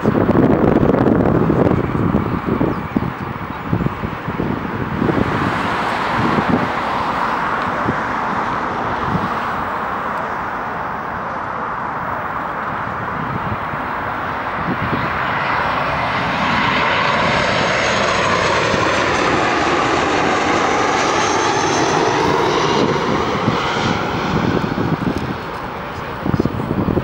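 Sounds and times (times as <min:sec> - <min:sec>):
jet engine whine: 0:00.0 - 0:27.0
jet plane passing overhead: 0:00.0 - 0:27.0.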